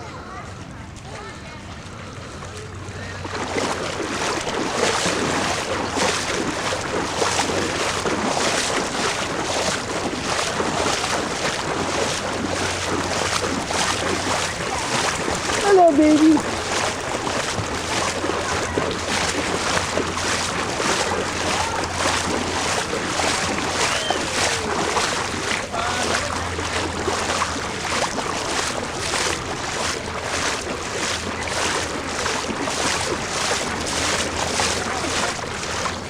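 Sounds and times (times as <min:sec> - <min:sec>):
flood water splashing and rushing: 0:00.0 - 0:36.0
regular splash: 0:00.0 - 0:36.0
steady low hum: 0:00.0 - 0:36.0.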